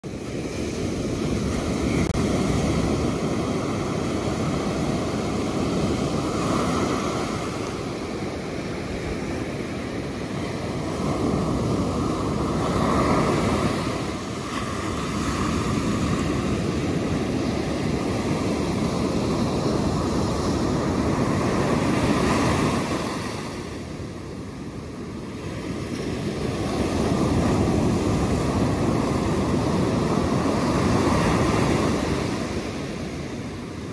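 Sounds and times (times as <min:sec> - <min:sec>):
ocean surf breaking on beach: 0:00.0 - 0:33.9.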